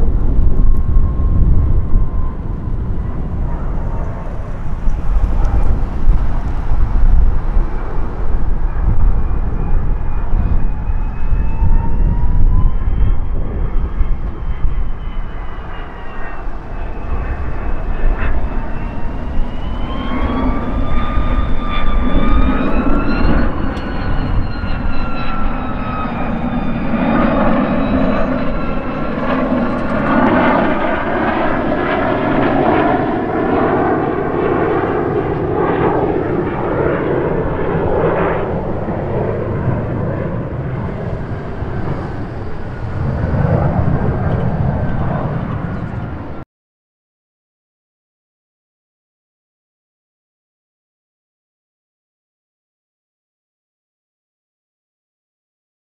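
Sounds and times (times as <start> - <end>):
jet aircraft flying past: 0.0 - 46.4.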